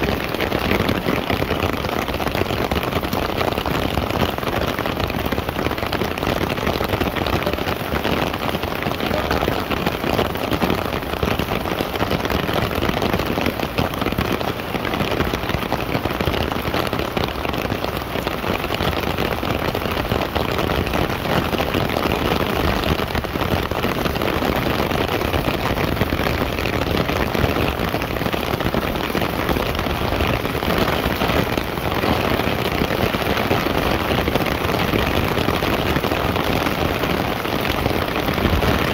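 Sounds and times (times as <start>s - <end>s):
heavy rain on plastic umbrella: 0.0s - 38.9s
rain splashing on asphalt: 0.0s - 38.9s.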